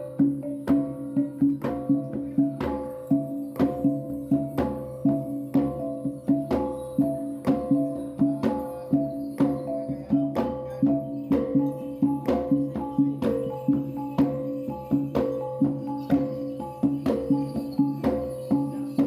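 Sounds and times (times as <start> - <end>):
music with steady beat: 0.0 - 19.0.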